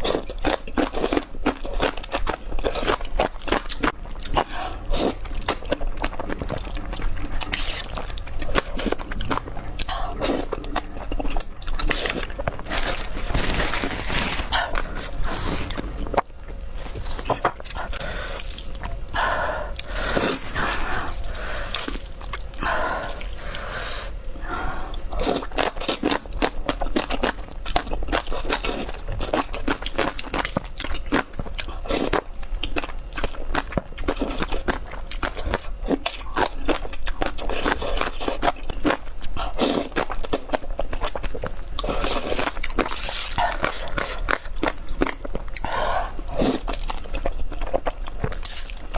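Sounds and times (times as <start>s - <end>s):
wet chewing and slurping: 0.0s - 48.9s.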